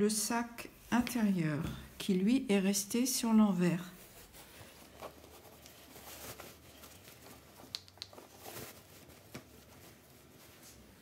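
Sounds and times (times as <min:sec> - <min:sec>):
fabric rustling and rubbing: 0:00.8 - 0:11.0.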